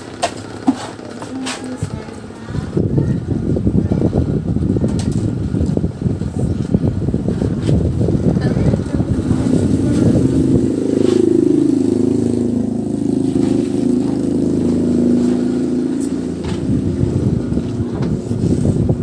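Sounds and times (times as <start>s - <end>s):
vehicle engine running: 0.0s - 19.0s
rough low noise: 2.3s - 19.0s.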